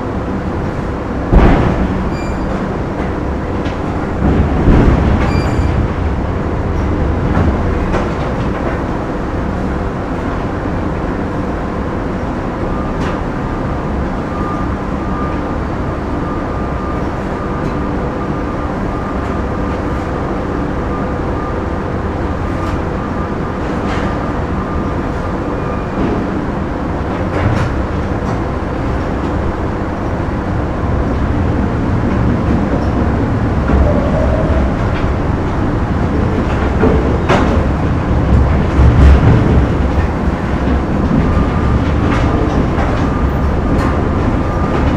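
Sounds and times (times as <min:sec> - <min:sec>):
factory machinery rumble: 0:00.0 - 0:44.9
faint machine whine: 0:00.0 - 0:44.9.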